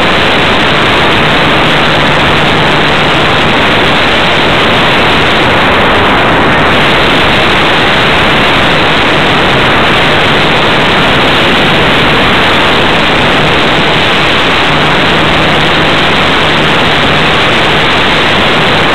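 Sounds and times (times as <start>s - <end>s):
loud even hiss: 0.0s - 18.9s.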